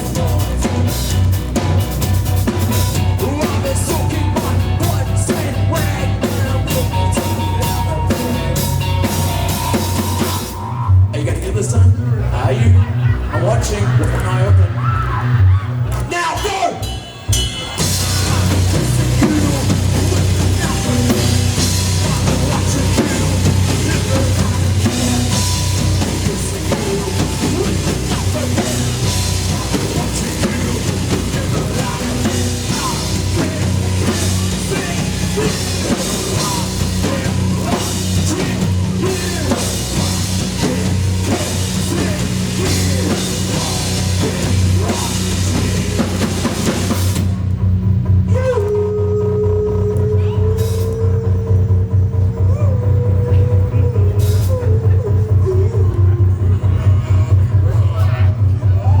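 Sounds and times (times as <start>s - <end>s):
driving drum kit: 0.0s - 13.9s, 14.5s - 59.0s
heavy bass line: 0.0s - 59.0s
keyboards: 0.0s - 59.0s
live heavy rock band: 0.0s - 59.0s.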